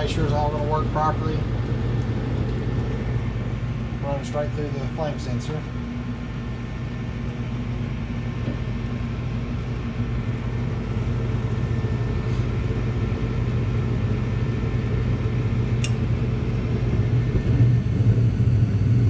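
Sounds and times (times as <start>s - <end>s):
gas furnace rumbling: 0.0s - 19.0s.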